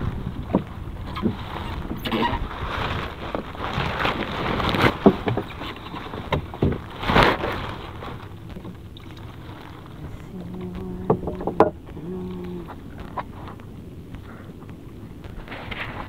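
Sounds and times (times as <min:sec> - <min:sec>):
low hum with higher tone: 0:00.0 - 0:16.0
plastic sheeting rustling: 0:00.0 - 0:16.0.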